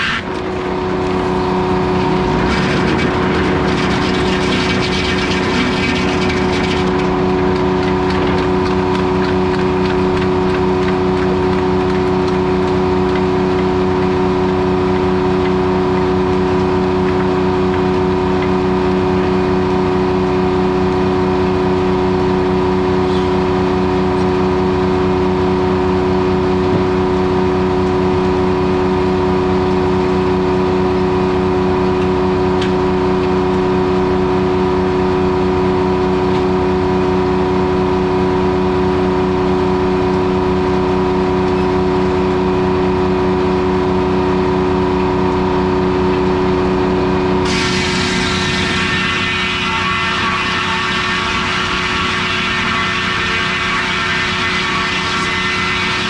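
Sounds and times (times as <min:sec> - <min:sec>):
sawmill saw spinning drone: 0:00.0 - 0:56.0.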